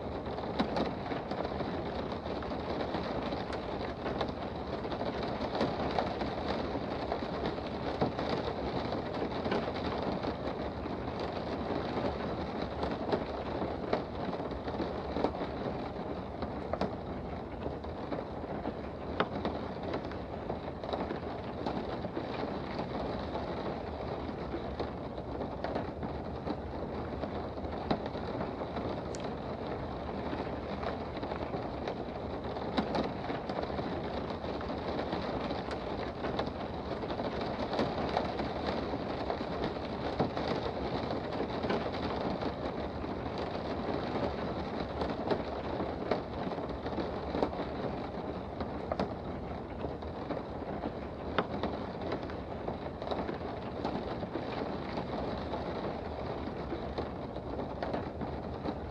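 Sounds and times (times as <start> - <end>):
sharp raindrop ticks: 0.0 - 58.9
steady rain hiss: 0.0 - 58.9.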